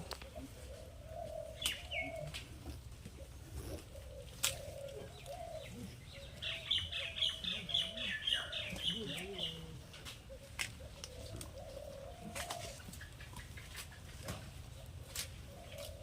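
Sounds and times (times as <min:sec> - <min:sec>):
bird cooing: 0:00.0 - 0:16.0.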